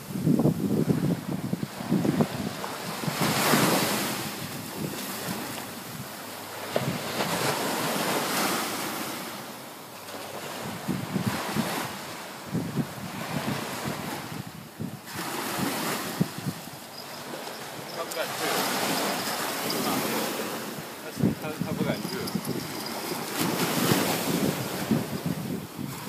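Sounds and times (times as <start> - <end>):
wind buffeting microphone: 0.0 - 8.6, 10.1 - 26.0
sea waves breaking on shore: 0.0 - 26.0.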